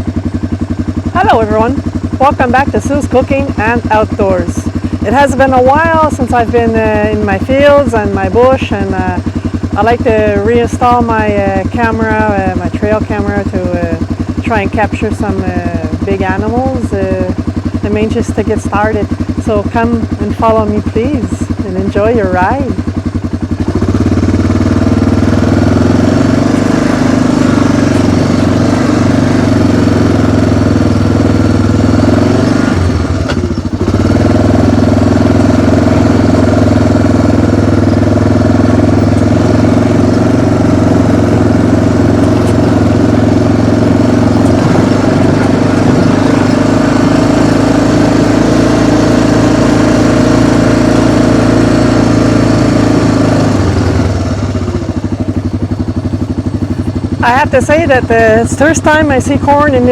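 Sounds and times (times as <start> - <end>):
small vehicle engine running: 0.0 - 59.9.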